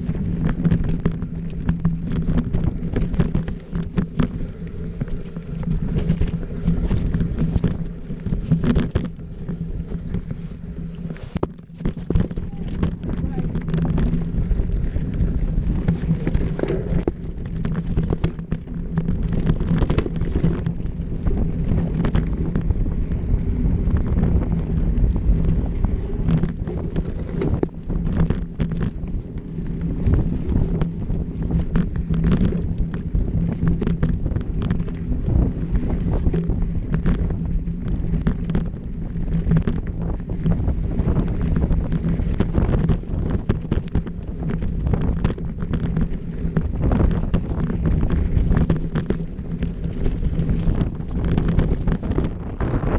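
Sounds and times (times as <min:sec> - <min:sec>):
bike knocking and rattling: 0:00.0 - 0:52.9
tyres on dirt: 0:00.0 - 0:52.9
wind rushing over microphone: 0:00.0 - 0:52.9.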